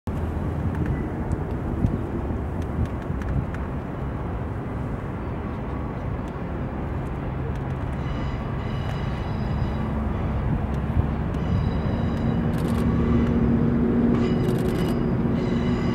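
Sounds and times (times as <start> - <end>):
locomotive rumbling: 0.1 - 15.9.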